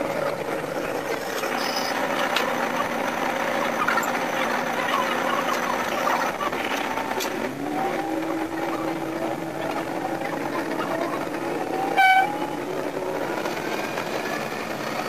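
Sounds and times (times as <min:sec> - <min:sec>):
diesel railcar engine chatter: 0:00.0 - 0:15.0.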